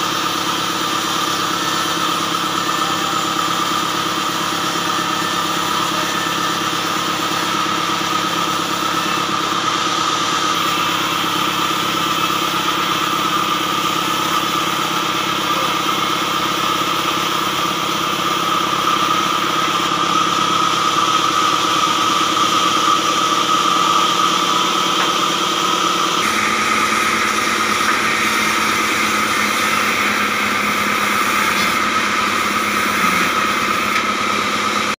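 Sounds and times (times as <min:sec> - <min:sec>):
diesel engine running: 0:00.0 - 0:35.0
saw high whine: 0:00.0 - 0:35.0.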